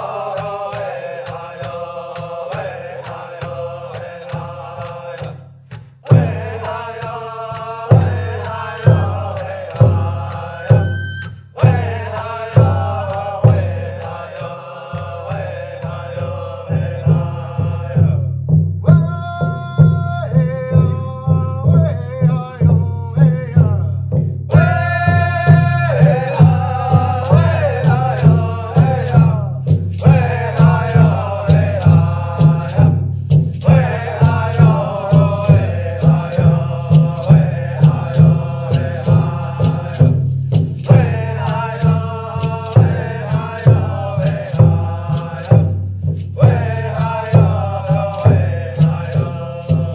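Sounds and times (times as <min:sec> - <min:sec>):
chanted singing: 0:00.0 - 0:05.4, 0:06.1 - 0:18.3, 0:24.5 - 0:33.0, 0:33.6 - 0:49.9
steady drum beat: 0:00.0 - 0:49.9.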